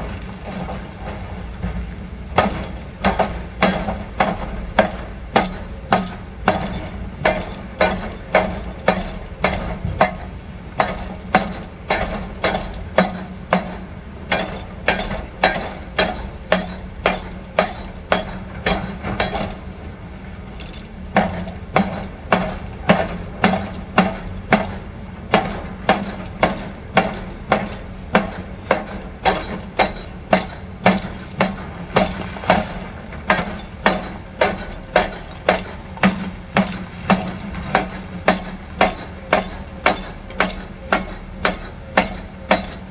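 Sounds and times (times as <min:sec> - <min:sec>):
low machine drone: 0:00.0 - 0:42.9
hammering impacts: 0:02.4 - 0:19.6, 0:20.6 - 0:42.9.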